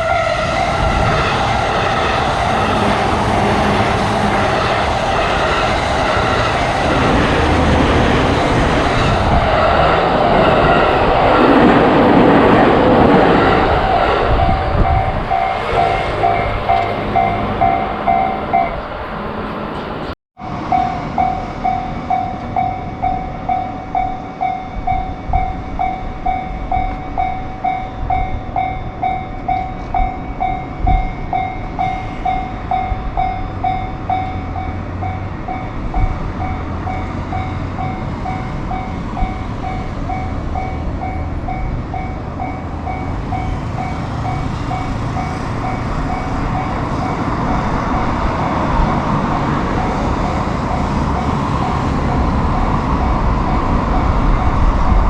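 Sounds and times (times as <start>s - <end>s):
railroad crossing warning bell: 0.0s - 55.0s
train rumbling past: 0.0s - 55.0s.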